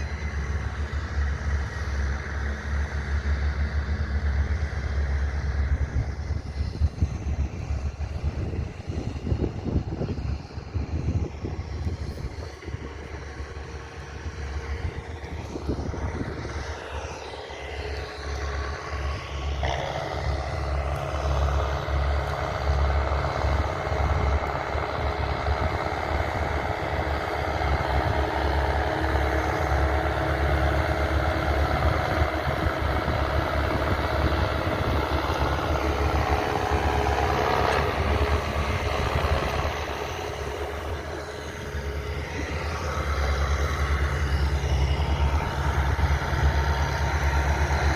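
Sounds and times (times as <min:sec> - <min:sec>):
heavy machinery engine running: 0:00.0 - 0:47.9.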